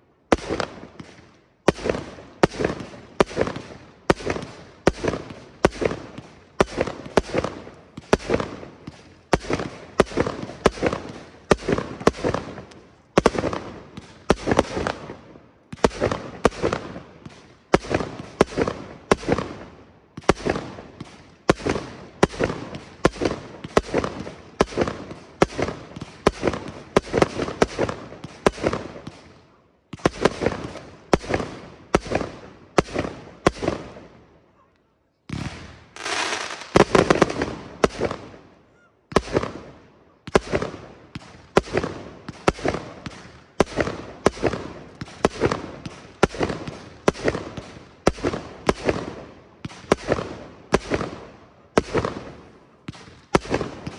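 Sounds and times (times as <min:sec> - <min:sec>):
fireworks bangs: 0:00.3 - 0:34.2, 0:35.3 - 0:38.5, 0:39.1 - 0:53.9.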